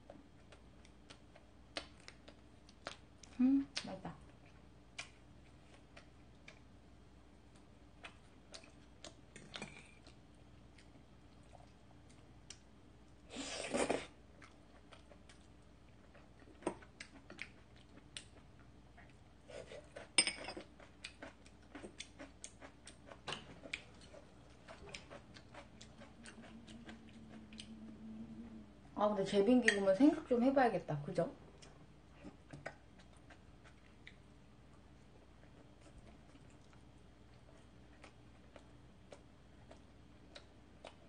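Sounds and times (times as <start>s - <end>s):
soft chewing and mouth clicks: 0.0s - 29.0s, 31.4s - 41.0s.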